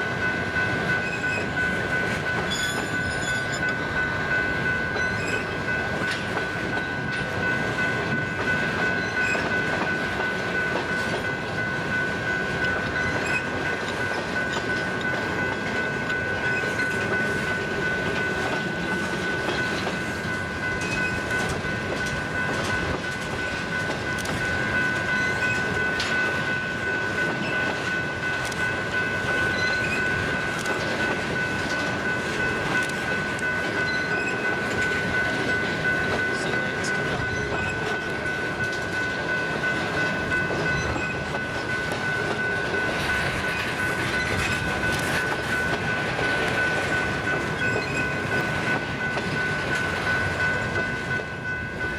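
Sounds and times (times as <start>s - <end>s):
train wheels clicking over rail joints: 0.2s - 51.9s.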